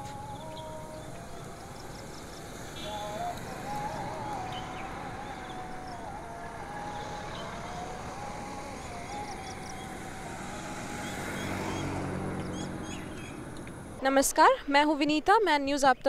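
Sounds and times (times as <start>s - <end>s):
faint engine whine: 0.0s - 14.0s
vehicle passing: 0.0s - 14.1s.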